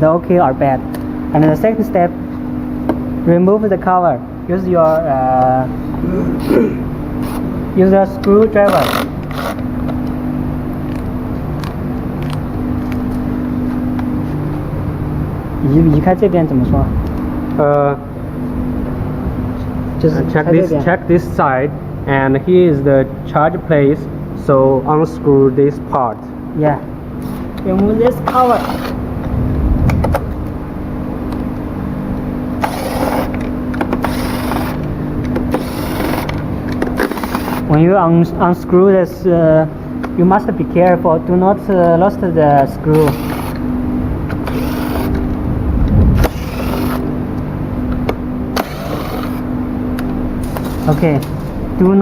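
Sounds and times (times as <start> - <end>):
mechanical hum: 0.0 - 52.0.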